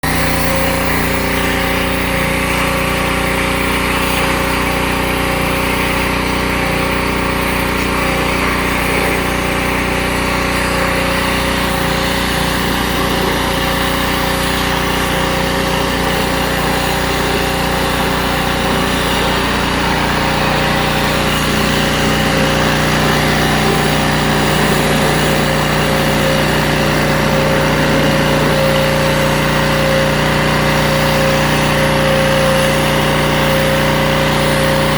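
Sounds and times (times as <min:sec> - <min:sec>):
pressure washer engine running: 0:00.0 - 0:34.9.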